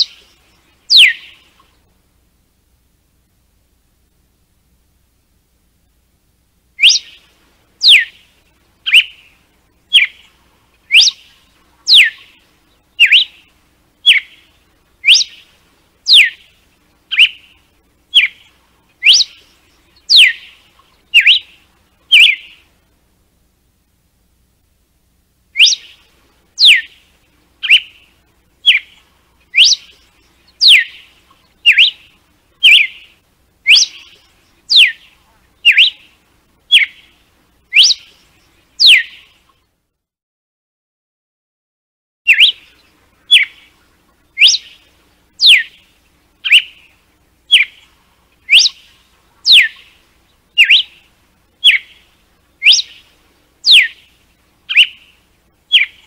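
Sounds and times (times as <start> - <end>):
bird whistling song: 0.0 - 1.9, 6.8 - 22.7, 25.5 - 39.7, 42.3 - 56.0.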